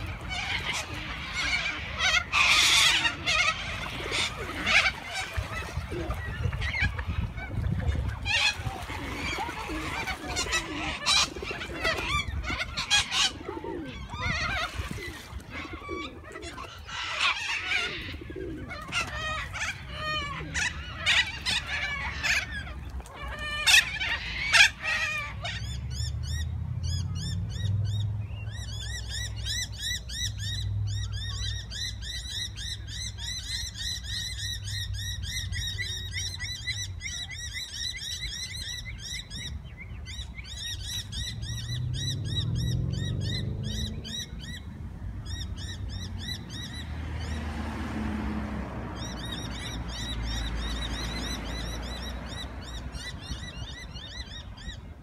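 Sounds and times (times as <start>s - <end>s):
waterbirds squawking and honking: 0.0s - 55.0s.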